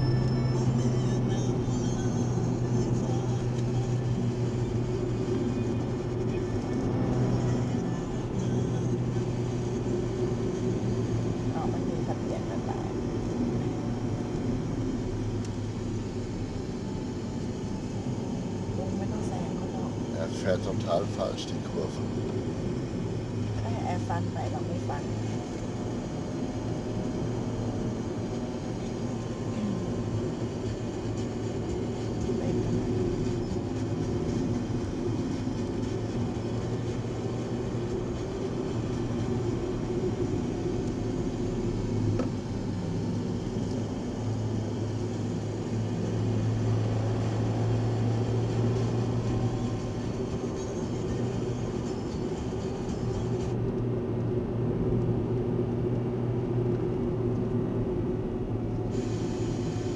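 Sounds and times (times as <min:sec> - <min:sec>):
car interior road noise: 0:00.0 - 0:59.9.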